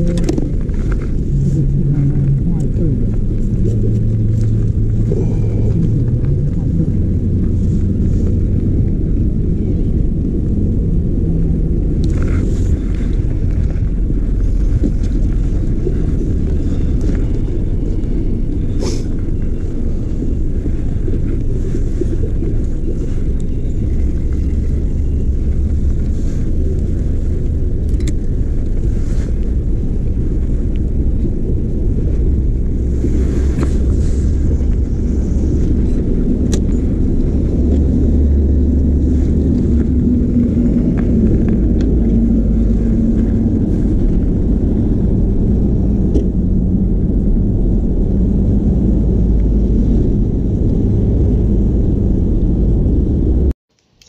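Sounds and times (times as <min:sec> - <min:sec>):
wind buffeting microphone: 0:00.0 - 0:53.5.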